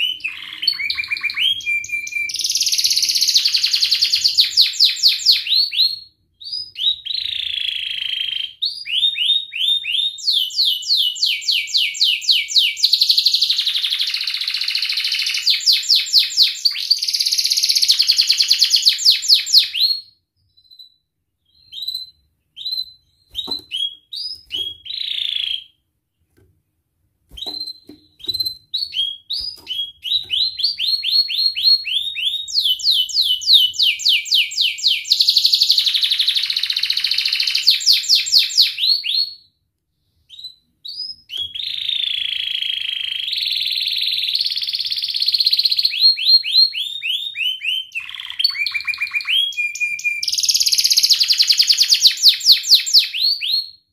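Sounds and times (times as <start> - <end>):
canary singing: 0.0 - 25.8, 27.3 - 39.4, 40.3 - 53.8.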